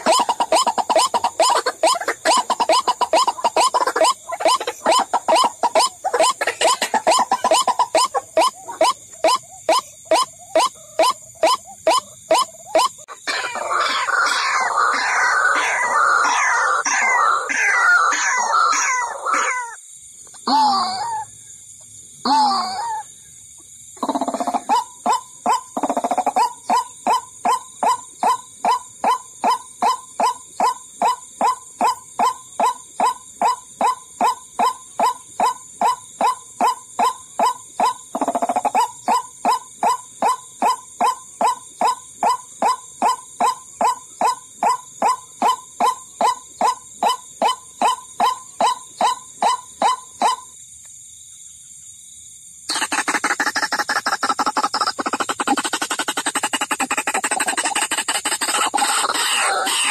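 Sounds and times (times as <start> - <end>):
waterhen calls: 0.0 - 19.8, 24.0 - 50.4, 52.7 - 59.9.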